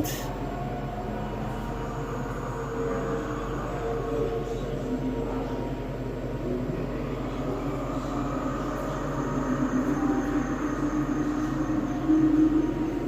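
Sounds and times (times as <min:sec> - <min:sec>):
held humming tones: 0:00.0 - 0:13.0
low rumbling drone: 0:00.0 - 0:13.0.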